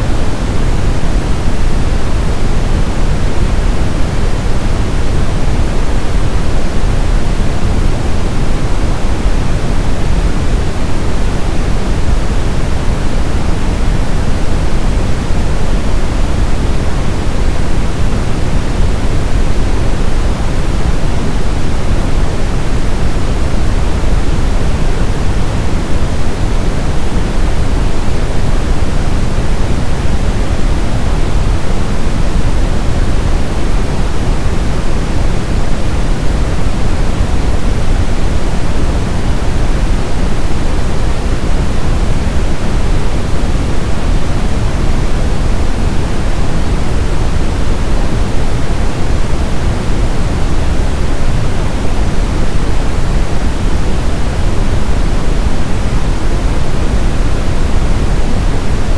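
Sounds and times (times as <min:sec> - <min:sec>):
brown noise rushing hiss: 0:00.0 - 0:58.9.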